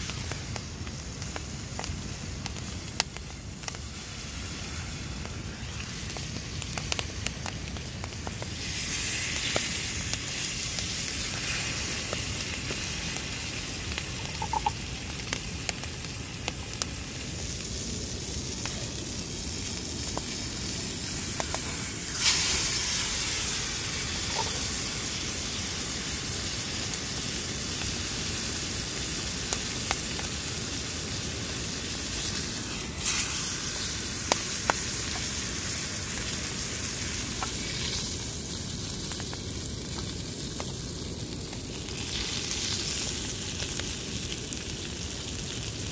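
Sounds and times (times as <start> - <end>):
steak sizzling in skillet: 0.0 - 45.8
burning wood crackling: 0.0 - 45.9.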